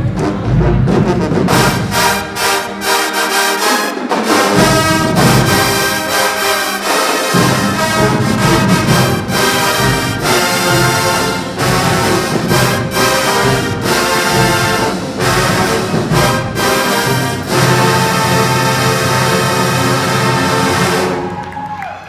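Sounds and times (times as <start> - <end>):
marching band brass playing: 0.0 - 21.6.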